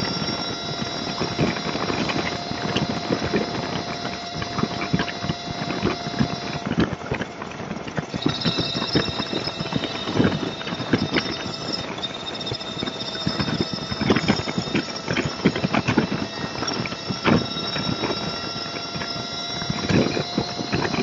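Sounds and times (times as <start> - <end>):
thin high whine: 0.0 - 21.0.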